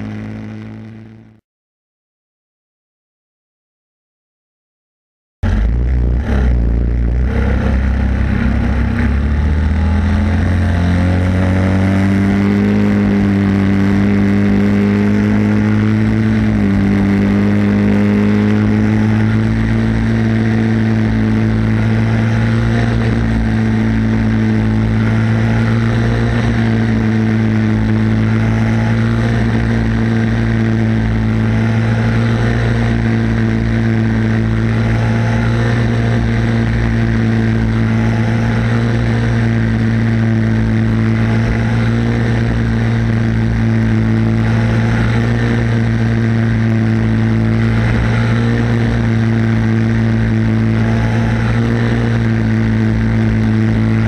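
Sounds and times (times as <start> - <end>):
kart engine at full throttle: 0.0 - 1.4, 5.4 - 54.0.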